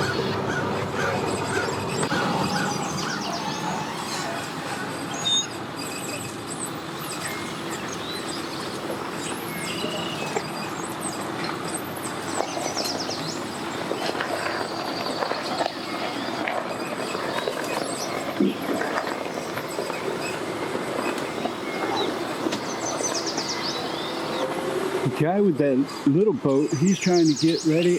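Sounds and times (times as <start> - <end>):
bird chirps: 0.0 - 20.4, 21.0 - 24.5, 26.5 - 27.9
engine running: 0.0 - 27.9.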